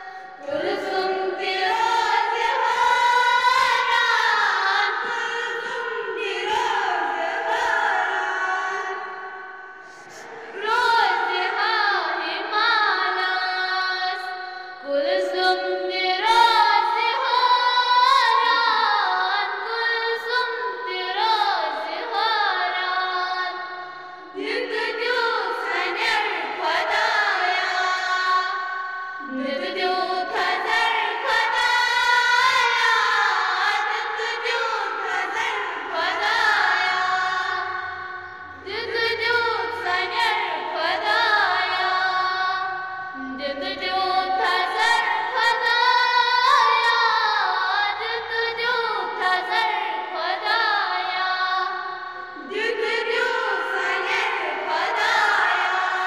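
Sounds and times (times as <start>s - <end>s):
children singing prayer in unison: 0.0s - 14.4s, 15.1s - 23.7s, 24.3s - 56.0s.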